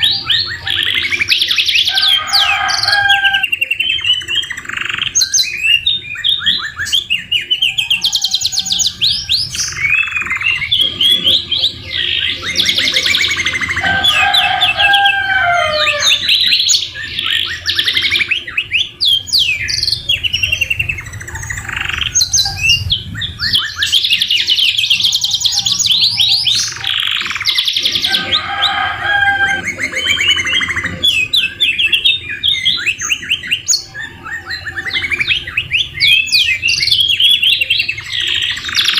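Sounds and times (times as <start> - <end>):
canaries singing trills: 0.0 - 38.9.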